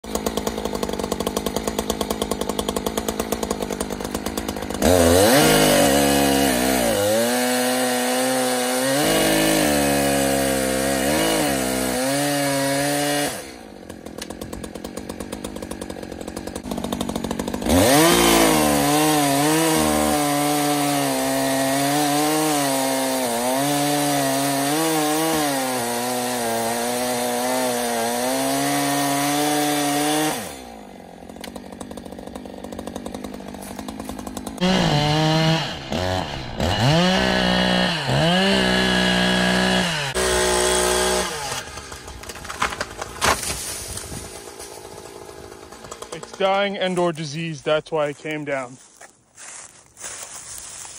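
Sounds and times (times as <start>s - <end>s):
chainsaw cutting into tree: 0.0s - 48.7s
chainsaw idling and revving: 0.0s - 48.9s.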